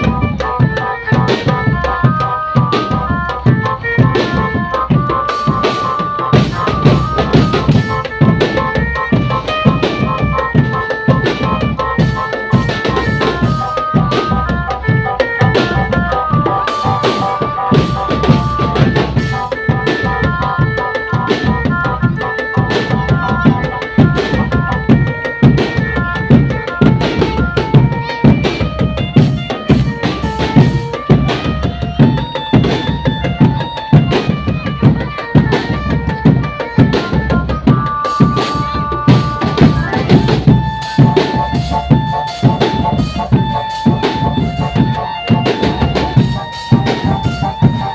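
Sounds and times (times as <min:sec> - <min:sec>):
bass drums: 0:00.0 - 0:47.9
marching drum band: 0:00.0 - 0:47.9
melody line: 0:00.0 - 0:47.9
snare drums: 0:00.0 - 0:47.9.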